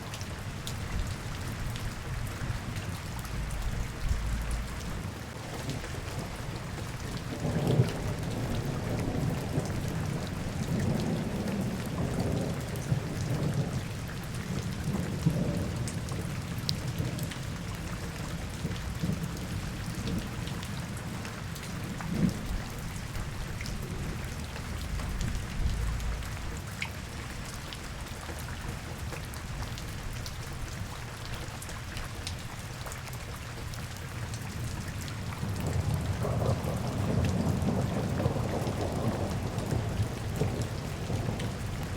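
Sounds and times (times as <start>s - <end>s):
steady rain falling: 0.0s - 41.9s
faint drips and ticks: 0.1s - 41.9s.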